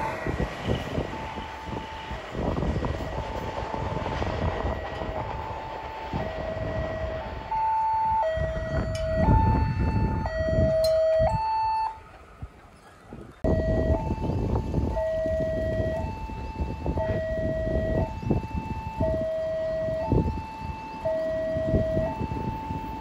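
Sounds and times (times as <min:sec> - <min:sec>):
two-tone level crossing alarm: 0:00.0 - 0:12.1, 0:13.4 - 0:23.0
low rumble of approaching train: 0:00.0 - 0:23.0.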